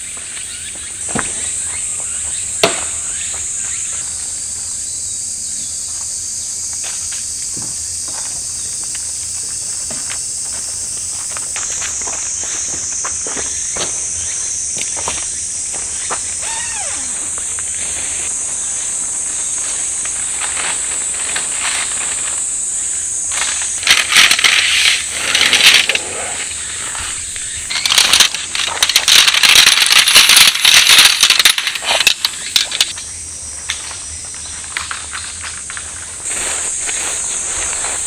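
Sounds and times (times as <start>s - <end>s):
high-pitched insect drone: 0.0s - 38.0s
rustling and crackling: 6.8s - 38.0s.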